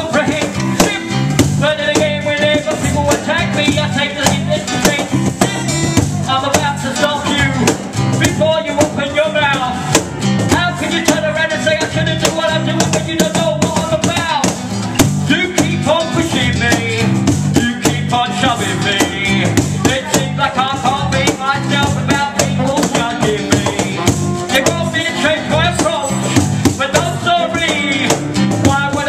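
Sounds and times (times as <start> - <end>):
bass guitar: 0.0 - 29.0
drum: 0.0 - 29.0
person rapping through microphone: 0.0 - 29.0
strummed acoustic guitar: 0.0 - 29.0.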